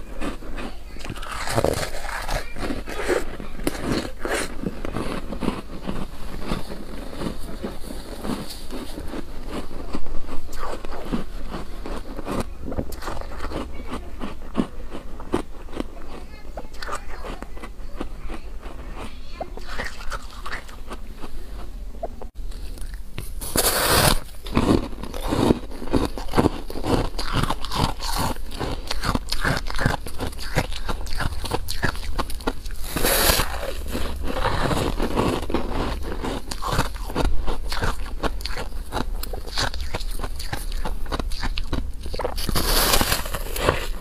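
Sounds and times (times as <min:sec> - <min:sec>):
ice crunching bites: 0:00.0 - 0:16.2, 0:19.6 - 0:21.0, 0:22.8 - 0:44.0
ice cracking chews: 0:00.0 - 0:21.7, 0:22.5 - 0:44.0.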